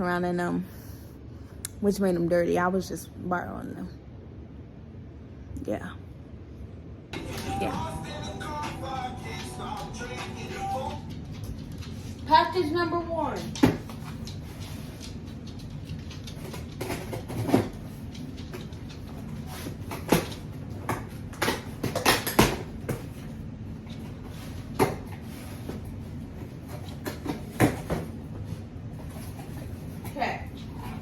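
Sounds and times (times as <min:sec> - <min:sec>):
low background hum: 0:00.0 - 0:31.0.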